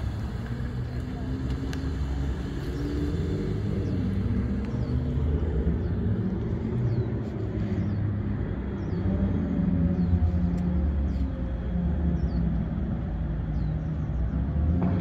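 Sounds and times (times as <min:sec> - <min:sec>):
car engine driving away: 0:00.0 - 0:15.0.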